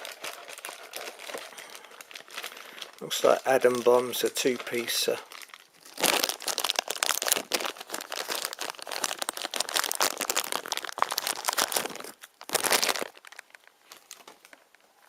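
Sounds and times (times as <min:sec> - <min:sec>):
plastic packaging crinkling: 0:00.0 - 0:14.9.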